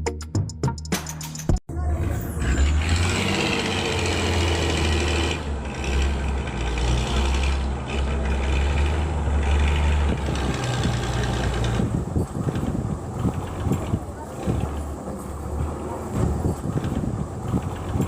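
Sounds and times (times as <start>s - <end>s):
vehicle engine idling: 1.7s - 18.0s.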